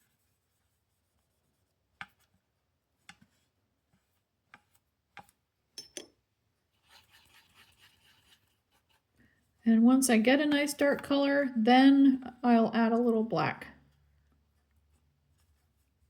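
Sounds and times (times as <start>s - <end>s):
brush swishing mixing paint: 0.0s - 11.3s, 13.8s - 16.0s.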